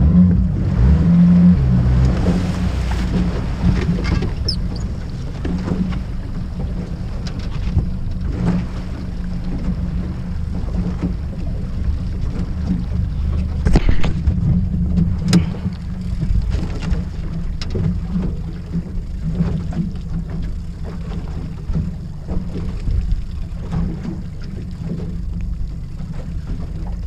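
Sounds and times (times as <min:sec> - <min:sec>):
wind on microphone: 0:00.0 - 0:25.4
outboard motor running: 0:00.0 - 0:27.0
water washing against hull: 0:00.0 - 0:27.0.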